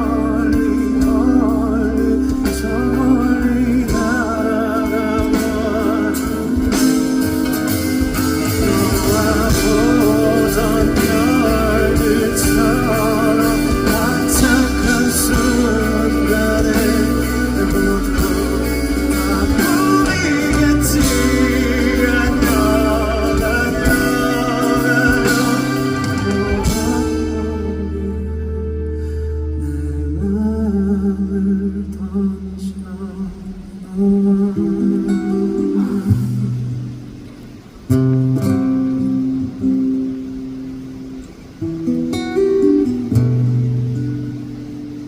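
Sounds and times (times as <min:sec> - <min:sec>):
man singing: 0:00.0 - 0:37.3
band with guitar: 0:00.0 - 0:45.0.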